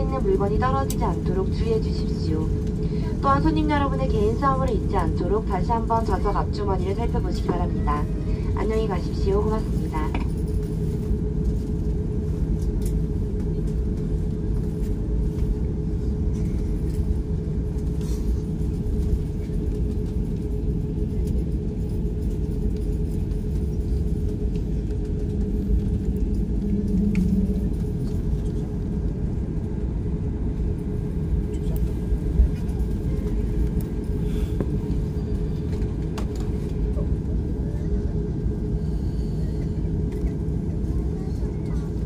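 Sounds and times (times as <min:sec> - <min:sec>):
jet engines idling rumble: 0:00.0 - 0:42.0
steady cabin hum: 0:00.0 - 0:42.0.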